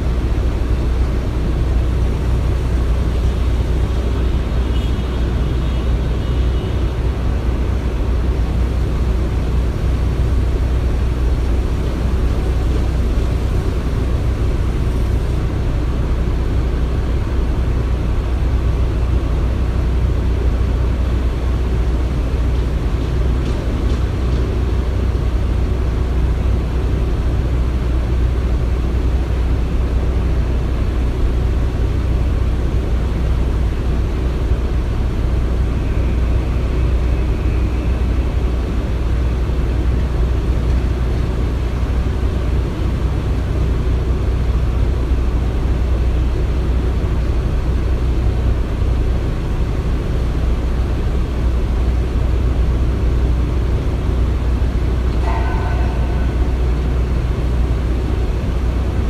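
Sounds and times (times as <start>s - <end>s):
low machinery rumble: 0.0s - 59.0s.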